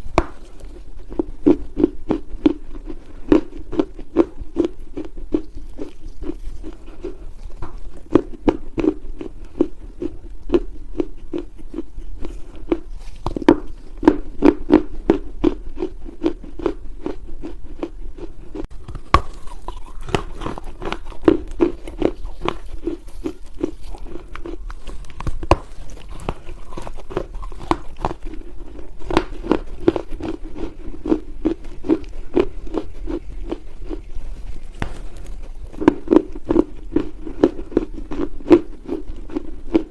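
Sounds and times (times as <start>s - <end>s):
chewing crunchy clay: 0.0s - 39.9s.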